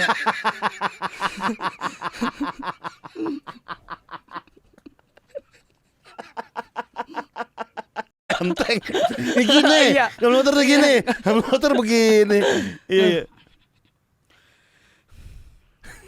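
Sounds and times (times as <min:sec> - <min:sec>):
man laughing hard: 0:00.0 - 0:13.4.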